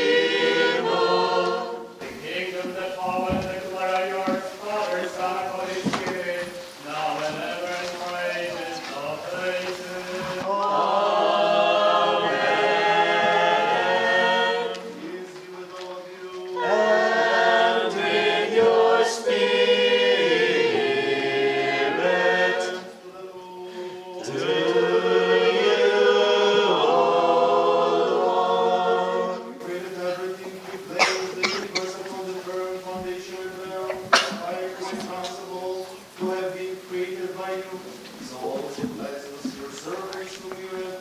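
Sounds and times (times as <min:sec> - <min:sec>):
choir singing a cappella chant: 0:00.0 - 0:41.0.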